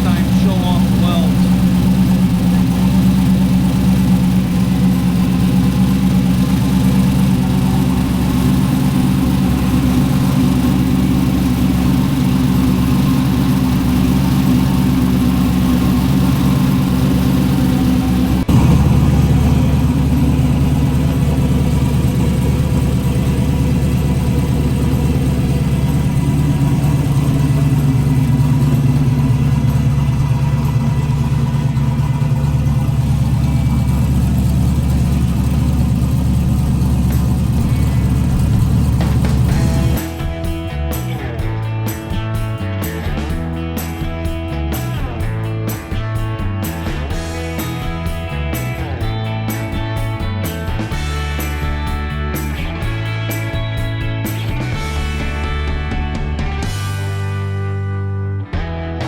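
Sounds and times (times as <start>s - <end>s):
car engine idling: 0.0s - 57.8s.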